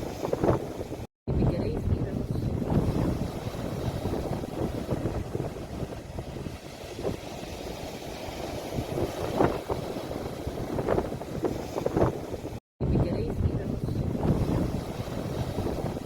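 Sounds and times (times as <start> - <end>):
surf rumbling: 0.0 - 16.0
wave splashes: 0.0 - 16.0.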